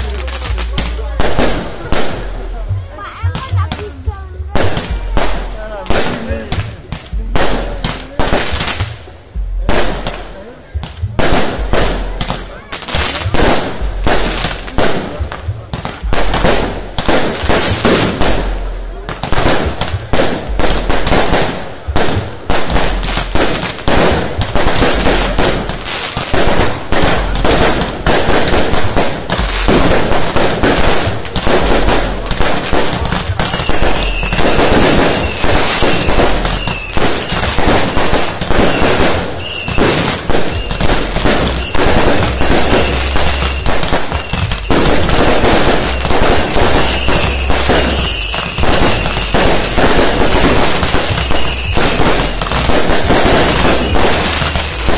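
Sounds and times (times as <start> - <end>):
firecrackers crackling: 0.0 - 54.9.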